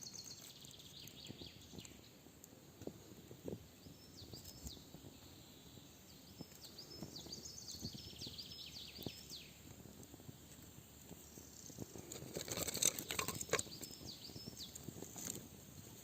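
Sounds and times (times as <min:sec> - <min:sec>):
songbird chirping and trilling: 0:00.0 - 0:02.2, 0:03.7 - 0:09.8, 0:10.5 - 0:15.4.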